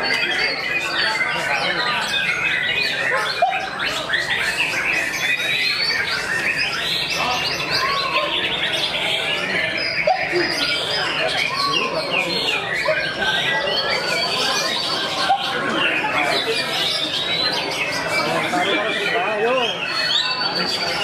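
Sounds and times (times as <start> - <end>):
birds chorus of whistles and trills: 0.0 - 21.0.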